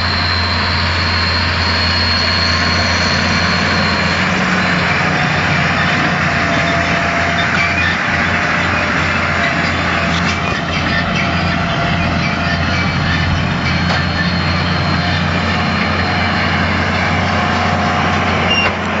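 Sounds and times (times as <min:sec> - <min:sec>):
baler working: 0:00.0 - 0:19.0
tractor engine drone: 0:00.0 - 0:19.0.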